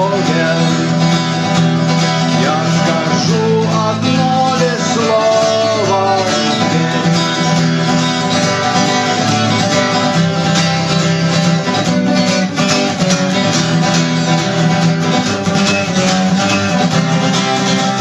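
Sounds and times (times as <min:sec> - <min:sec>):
guitar strumming chords: 0:00.0 - 0:18.0.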